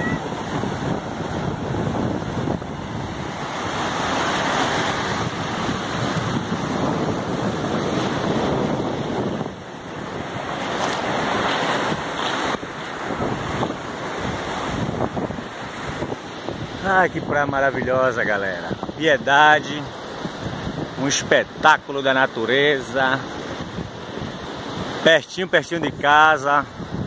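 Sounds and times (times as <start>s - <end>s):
wind buffeting microphone: 0.0s - 21.8s, 23.2s - 25.0s, 26.6s - 27.0s
surf breaking on sand: 0.0s - 27.0s.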